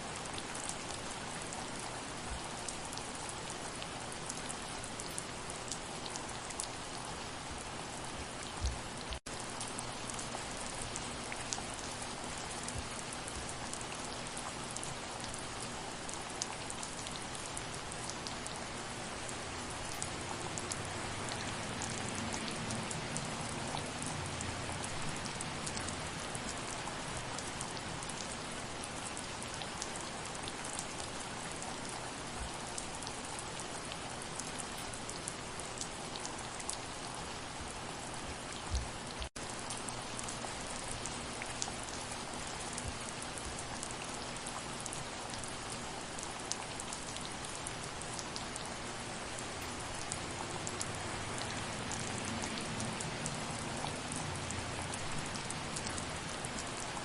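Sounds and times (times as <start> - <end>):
gentle rain: 0.0 - 57.0.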